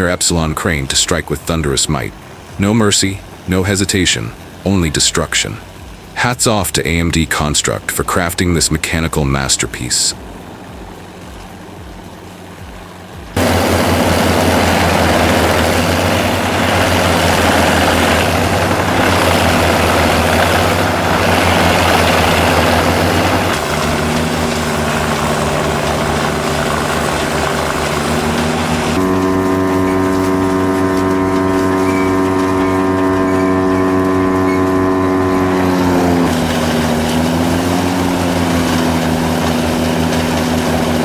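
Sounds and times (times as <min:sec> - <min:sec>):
noisy grinding: 0:00.0 - 0:41.0
wood chipper engine: 0:00.0 - 0:41.0.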